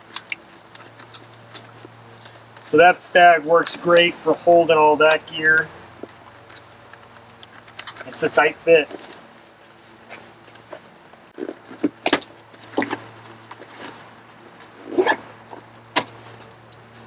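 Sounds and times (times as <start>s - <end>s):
gear clicking and rustling: 0.0s - 17.0s.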